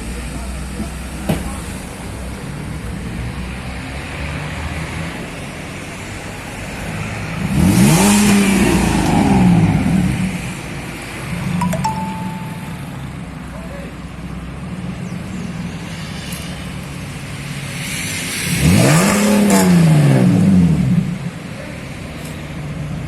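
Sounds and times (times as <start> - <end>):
car engine idling and revving: 0.0 - 11.6, 13.1 - 23.0.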